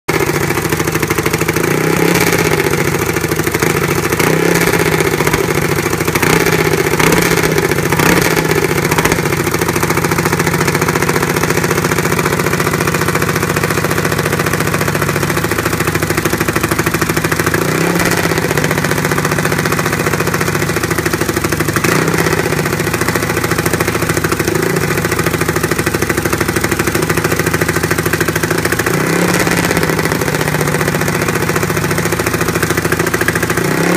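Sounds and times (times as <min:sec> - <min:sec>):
single-cylinder engine idling: 0:00.1 - 0:33.9.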